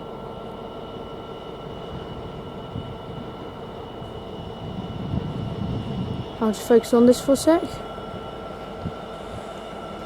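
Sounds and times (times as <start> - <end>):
diesel locomotive engine running: 0.0 - 10.0.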